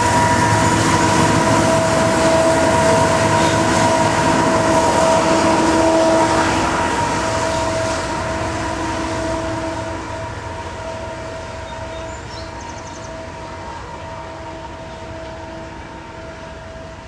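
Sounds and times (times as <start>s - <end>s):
freight train rumbling: 0.0s - 17.0s
steady ringing tones: 0.0s - 17.0s.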